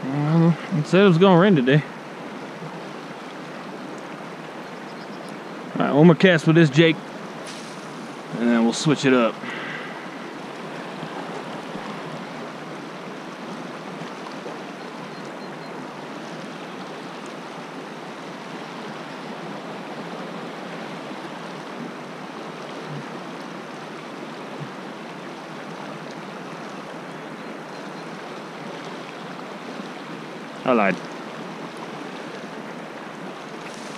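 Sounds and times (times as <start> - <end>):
shallow river flowing over rocks: 0.0 - 33.9.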